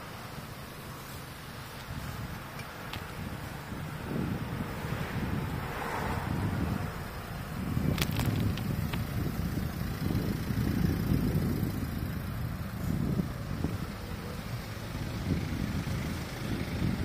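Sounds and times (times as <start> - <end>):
wind and road rumble: 0.0 - 17.0.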